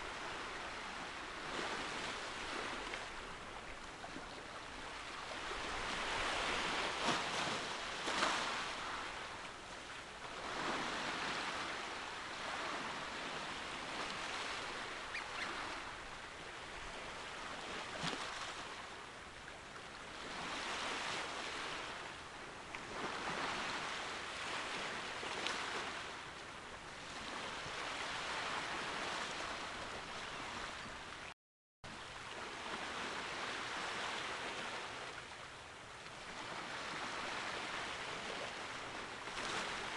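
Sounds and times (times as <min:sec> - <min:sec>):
sea waves washing on shore: 0:00.0 - 0:31.3, 0:31.9 - 0:39.9.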